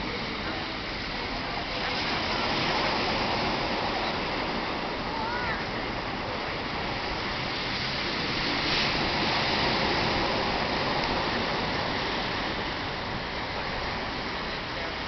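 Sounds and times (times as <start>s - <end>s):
surf washing onto shore: 0.0s - 15.0s.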